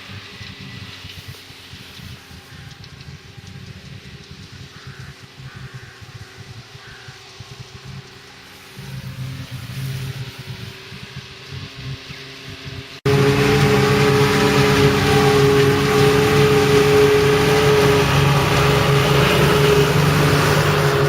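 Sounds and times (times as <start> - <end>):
faint engine hum: 0.0 - 21.0
loud diesel engine drone: 0.0 - 21.0
machinery rushing noise: 0.0 - 21.0.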